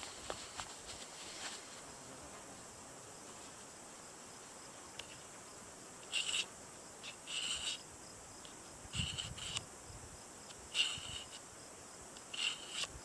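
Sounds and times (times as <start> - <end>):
faint high hiss: 0.0 - 13.0
insects chirping in buzzy bursts: 0.0 - 13.0.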